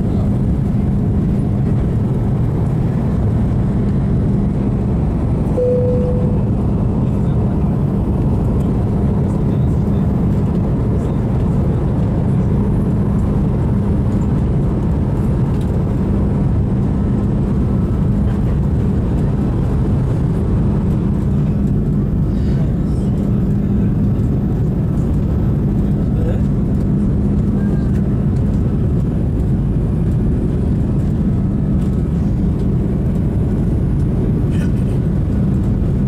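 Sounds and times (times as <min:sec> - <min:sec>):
constant low hum: 0:00.0 - 0:36.0
jet engine roar and airflow: 0:00.0 - 0:36.0.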